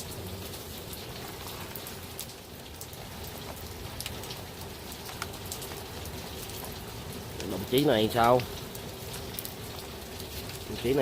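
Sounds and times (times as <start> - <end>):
rain on a tin roof: 0.0 - 11.0.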